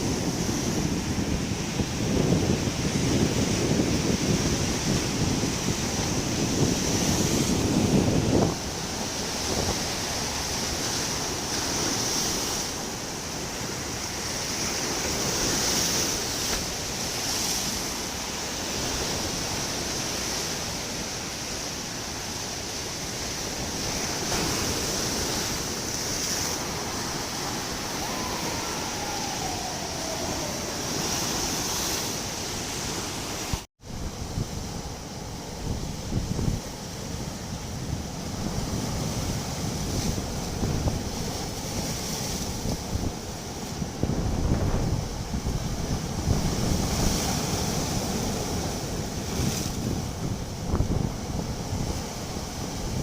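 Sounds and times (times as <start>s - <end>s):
sea surf washing onto shore: 0.0s - 53.0s
wind on microphone: 0.0s - 53.0s.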